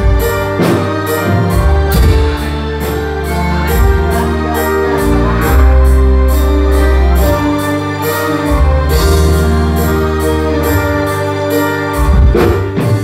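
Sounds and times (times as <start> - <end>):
loud music over speakers: 0.0 - 13.0.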